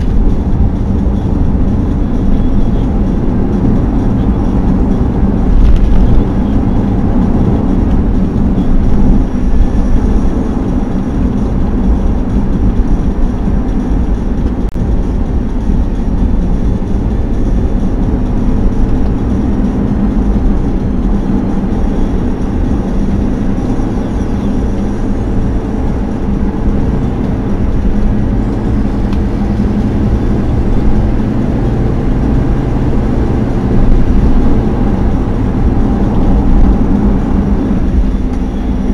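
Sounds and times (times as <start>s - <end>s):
car interior road rumble: 0.0s - 38.9s.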